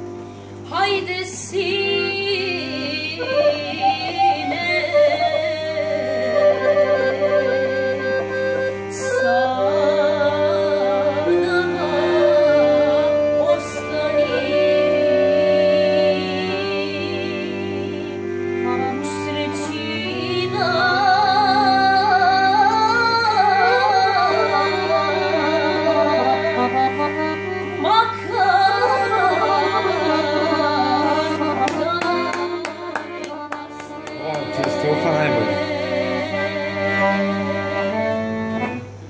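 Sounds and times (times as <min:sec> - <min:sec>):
accordion chords: 0:00.0 - 0:39.0
boy singing with vibrato: 0:00.7 - 0:08.0, 0:08.8 - 0:37.9.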